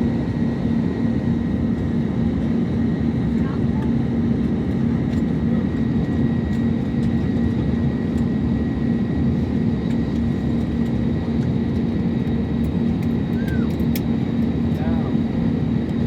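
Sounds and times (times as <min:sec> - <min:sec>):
airliner engine roar: 0:00.0 - 0:16.0.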